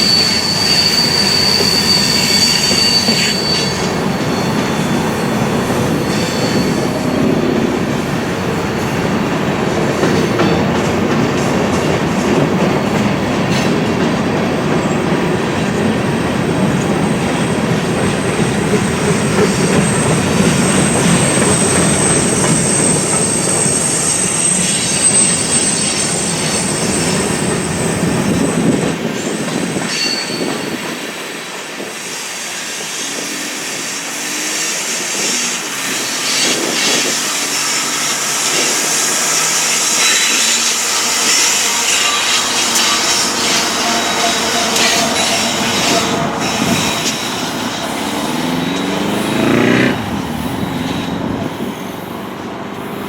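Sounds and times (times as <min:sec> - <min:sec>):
high wheel squeal: 0:00.0 - 0:10.7, 0:14.8 - 0:53.0
train rolling on rails: 0:00.0 - 0:53.0.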